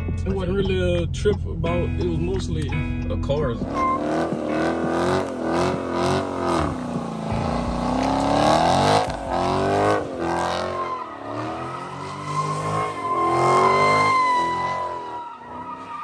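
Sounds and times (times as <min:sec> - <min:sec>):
car engine revving: 0:00.2 - 0:16.0.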